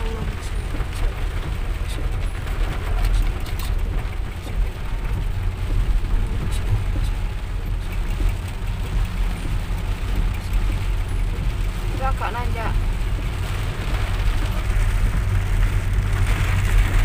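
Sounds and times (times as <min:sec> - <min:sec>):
car rumbling on road: 0:00.0 - 0:17.0
raindrops ticking on car: 0:00.0 - 0:17.0.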